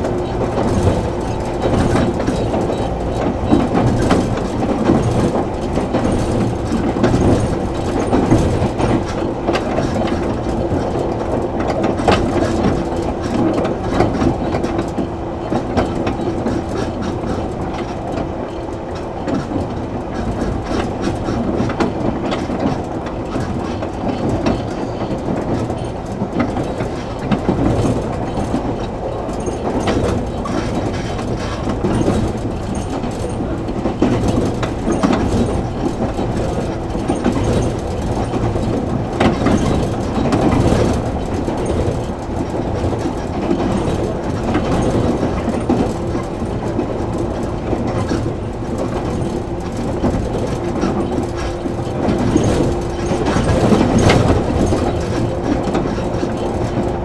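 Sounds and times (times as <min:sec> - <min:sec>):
rail-joint clicks: 0:00.0 - 0:57.0
train wheels rumbling on rail: 0:00.0 - 0:57.0.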